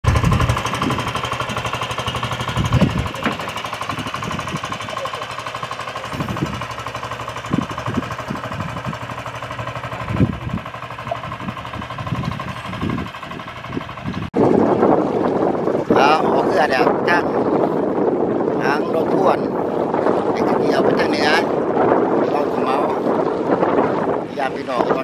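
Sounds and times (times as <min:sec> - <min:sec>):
boat engine rattling drone: 0:00.0 - 0:25.0.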